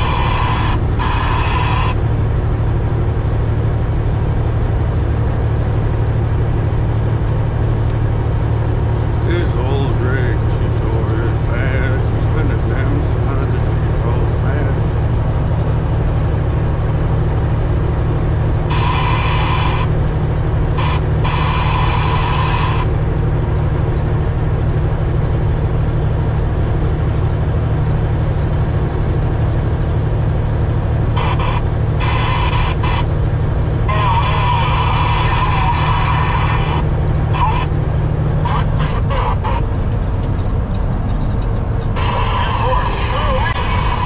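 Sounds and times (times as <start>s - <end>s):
diesel truck engine droning: 0.0s - 44.0s
road noise: 0.0s - 44.0s.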